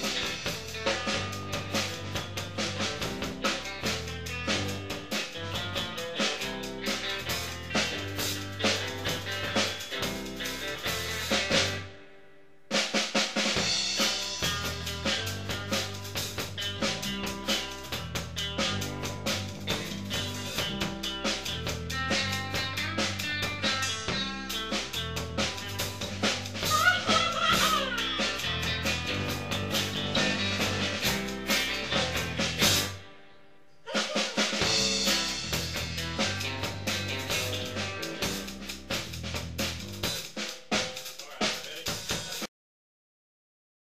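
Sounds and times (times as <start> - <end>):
drum beat: 0.0 - 11.8, 12.7 - 33.0, 33.9 - 42.5
guitar: 0.0 - 41.1
bass: 0.0 - 42.5.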